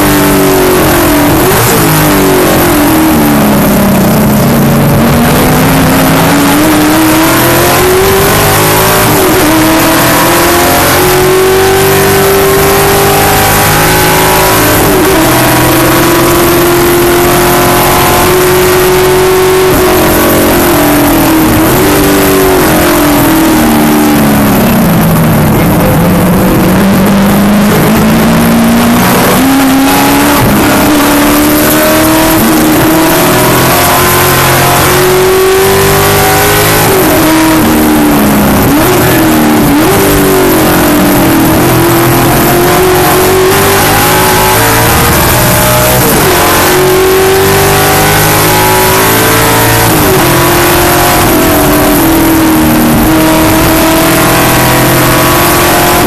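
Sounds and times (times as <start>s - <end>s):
gear changes: 0.0s - 56.0s
race car engine revving: 0.0s - 56.0s
wind and road noise: 0.0s - 56.0s.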